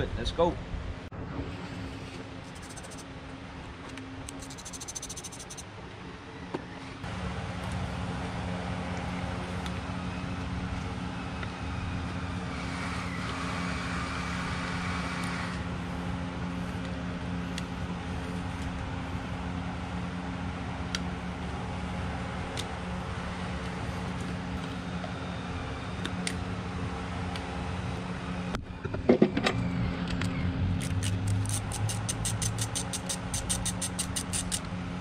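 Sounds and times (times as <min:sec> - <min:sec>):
mechanical hum with low drone: 0:00.0 - 0:35.0.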